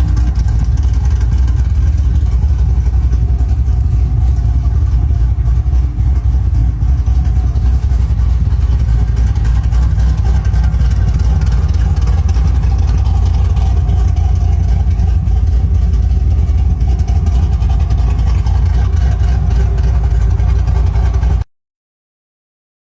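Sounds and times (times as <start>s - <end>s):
engine idling with loping beat: 0.0s - 21.5s.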